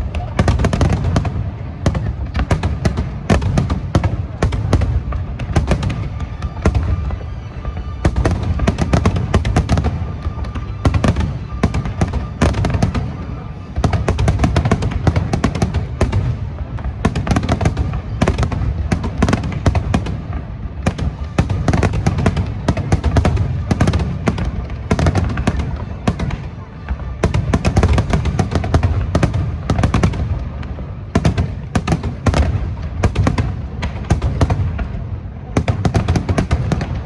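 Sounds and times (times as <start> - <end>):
fireworks bursts and crackle: 0.0 - 37.0
low fireworks booms: 0.0 - 37.0
music: 0.0 - 37.0.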